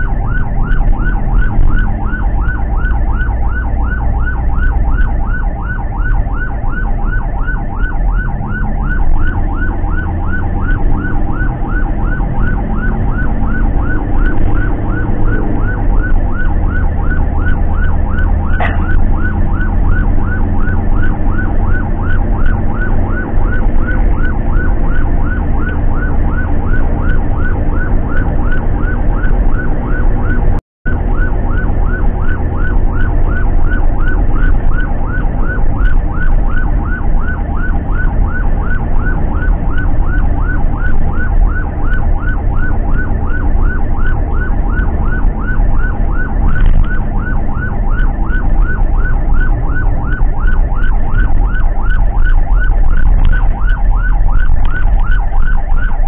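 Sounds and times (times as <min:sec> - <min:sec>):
electronic siren yelping: 0:00.0 - 0:56.0
vehicle engine and road rumble: 0:00.0 - 0:56.0.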